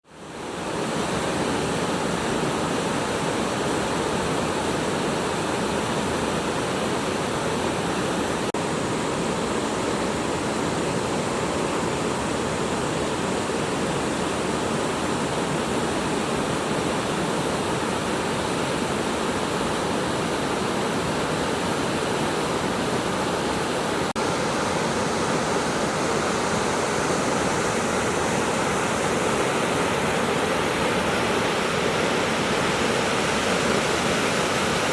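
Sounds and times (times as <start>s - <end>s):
river rushing over rocks: 0.1s - 34.9s.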